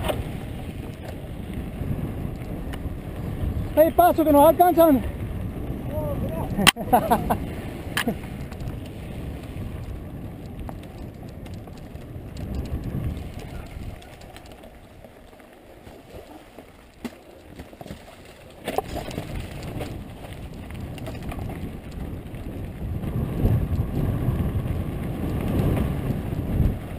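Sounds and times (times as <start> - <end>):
bike rumbling and rattling: 0.0 - 26.9
wind buffeting microphone: 0.0 - 26.9.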